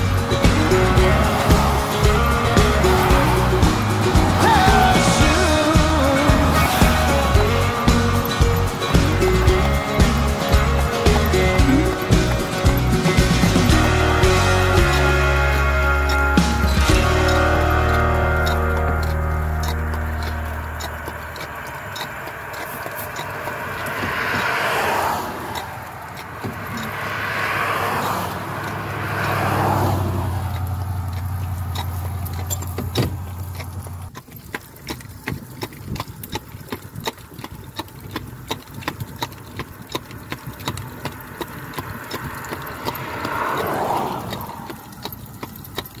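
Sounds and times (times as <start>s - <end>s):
horse hooves on asphalt: 0.0s - 46.0s
vehicles passing: 0.0s - 46.0s.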